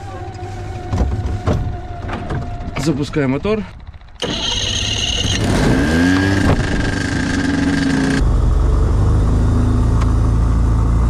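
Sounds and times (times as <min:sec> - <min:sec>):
propeller engine droning: 0:00.0 - 0:11.0.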